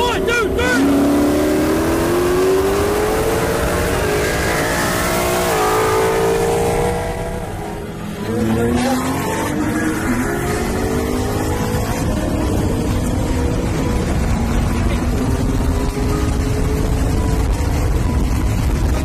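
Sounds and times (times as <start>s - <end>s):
another car engine revving: 0.0s - 18.7s
car engine at full throttle: 0.0s - 19.0s.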